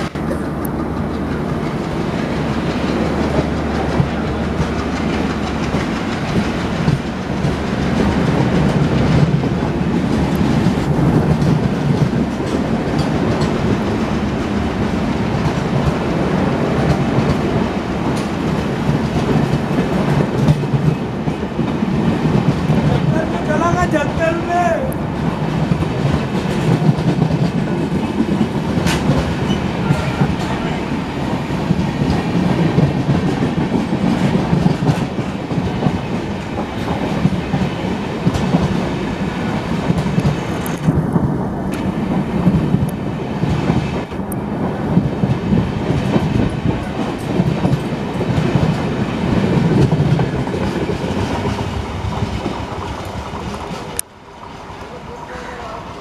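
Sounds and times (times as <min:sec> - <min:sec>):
train wheels clattering: 0:00.0 - 0:56.0.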